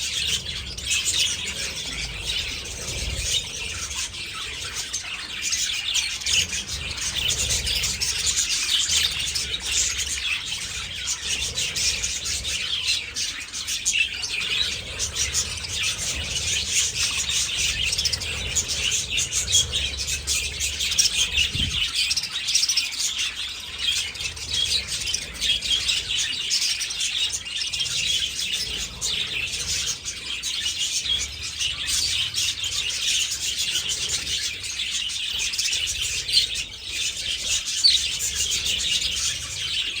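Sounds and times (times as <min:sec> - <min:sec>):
budgerigars chattering: 0:00.0 - 0:40.0.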